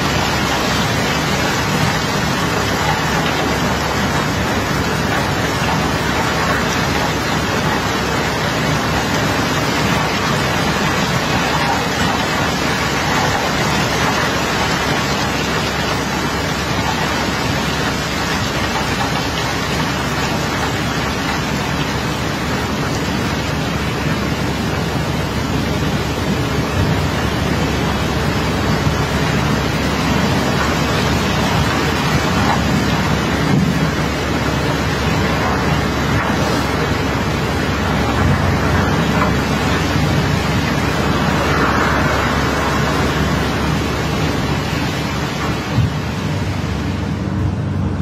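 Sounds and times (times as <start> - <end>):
low machine hum: 0.0 - 48.0
water rushing across deck: 0.0 - 48.0.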